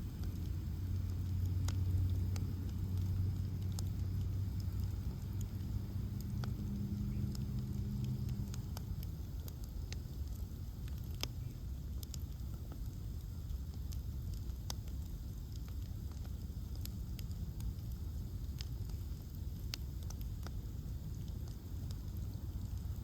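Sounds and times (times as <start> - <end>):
bonfire crackling and popping: 0.0 - 23.0
low hum: 0.0 - 23.0.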